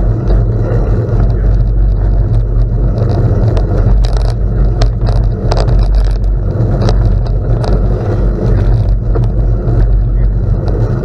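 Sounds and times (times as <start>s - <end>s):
gravel crackling under tyres: 0.0s - 11.0s
wind and tyre rumble: 0.0s - 11.0s.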